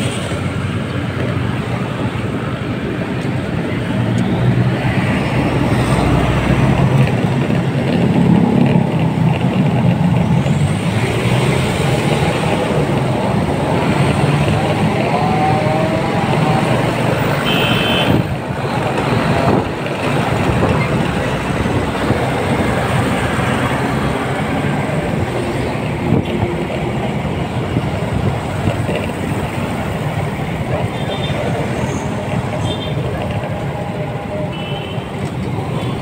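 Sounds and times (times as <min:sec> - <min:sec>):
street traffic: 0:00.0 - 0:36.0.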